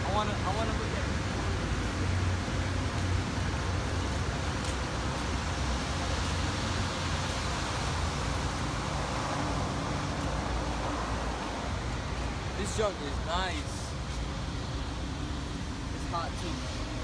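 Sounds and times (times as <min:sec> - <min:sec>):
traffic rumble and hiss: 0:00.0 - 0:17.0.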